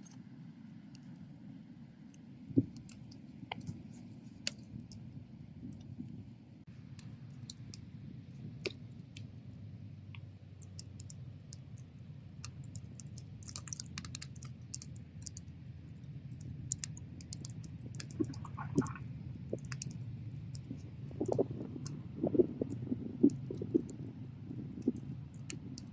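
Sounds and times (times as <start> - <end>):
bonfire flames rumbling: 2.4 - 25.9
burning wood crackling and popping: 2.5 - 25.9.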